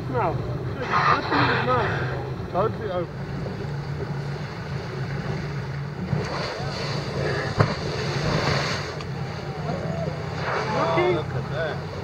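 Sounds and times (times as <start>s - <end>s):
outboard motors idling: 0.0s - 12.0s.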